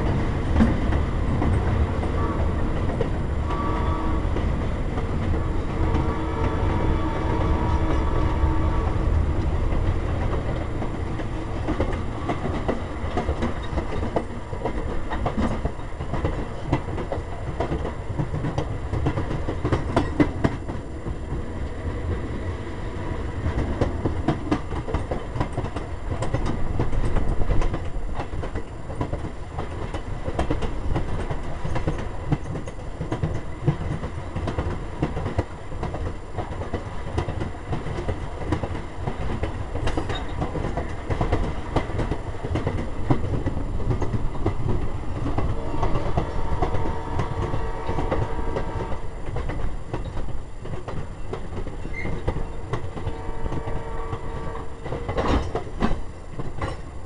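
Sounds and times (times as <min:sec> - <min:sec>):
train car rattling: 0:00.0 - 0:57.0
train rumble: 0:00.0 - 0:57.0
steel wheels clicking over rail joints: 0:09.0 - 0:21.4, 0:23.4 - 0:57.0.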